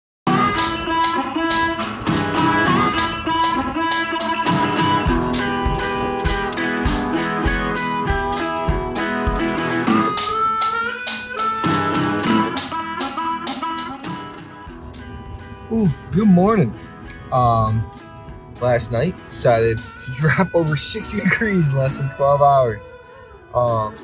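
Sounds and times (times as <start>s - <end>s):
guitar music: 0.3s - 24.0s.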